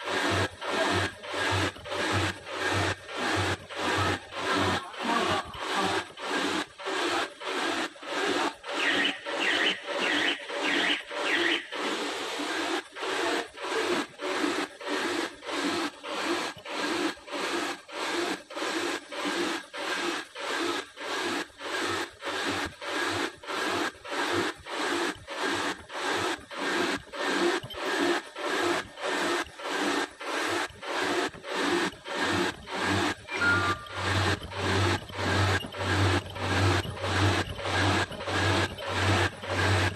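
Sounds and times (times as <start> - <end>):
machine rasping mechanical rush: 0.0 - 39.9.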